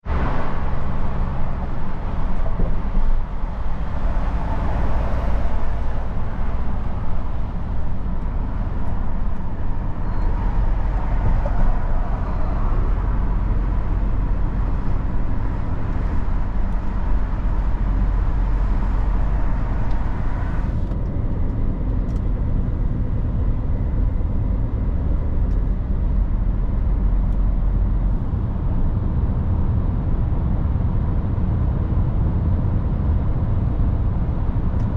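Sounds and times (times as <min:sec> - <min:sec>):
truck diesel engine rumble: 0:00.0 - 0:34.9.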